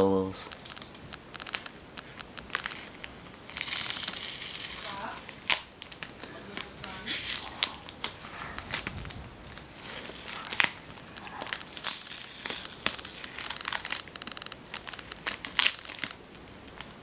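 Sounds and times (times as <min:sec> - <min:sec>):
packaging crinkling and tearing: 0:00.5 - 0:17.0.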